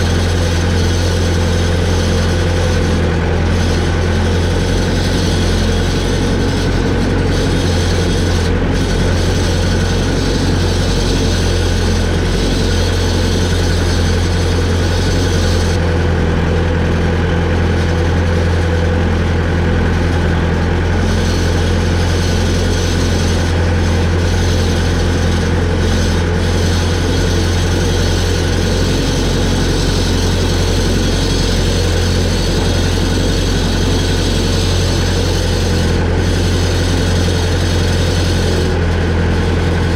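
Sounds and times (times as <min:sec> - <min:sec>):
heavy engine humming: 0:00.0 - 0:39.9.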